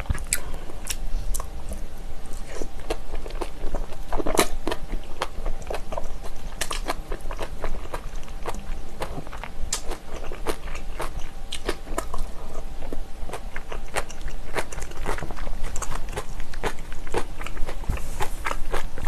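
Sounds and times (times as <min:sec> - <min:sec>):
person chewing wet smacks: 0:00.0 - 0:19.0.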